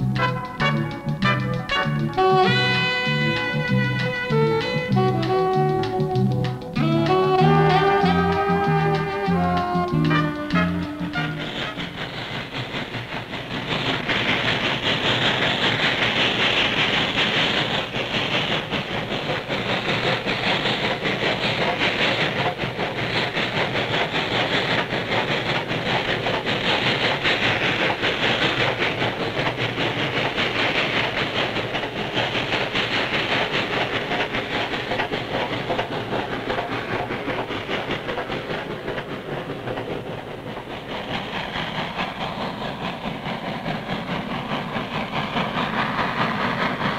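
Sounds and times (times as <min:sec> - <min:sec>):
steam locomotive exhaust: 0:00.0 - 0:46.9
wheels clattering over rail joints: 0:00.0 - 0:46.9.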